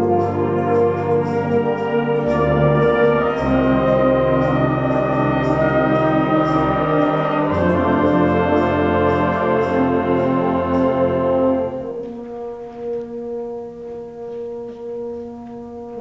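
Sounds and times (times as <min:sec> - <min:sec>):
concert band playing: 0:00.0 - 0:14.5.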